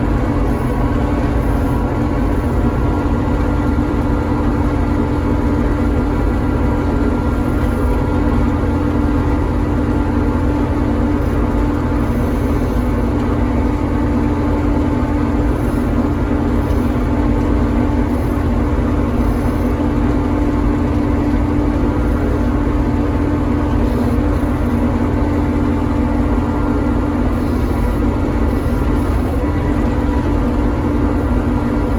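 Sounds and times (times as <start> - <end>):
forage harvester droning: 0.0 - 31.9.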